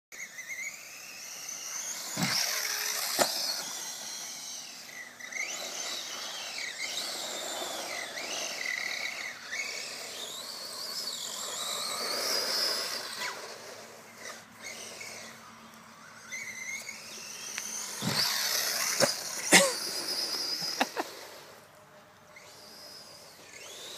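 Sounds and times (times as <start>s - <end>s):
rc car motor whining: 0.1s - 23.9s.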